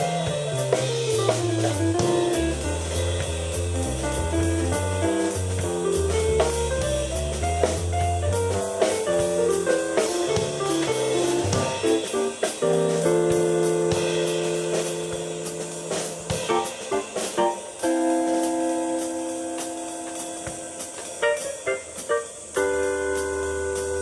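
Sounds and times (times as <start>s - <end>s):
drum kit with cymbal hits: 0.0s - 24.0s
keyboard playing rock: 0.0s - 24.0s.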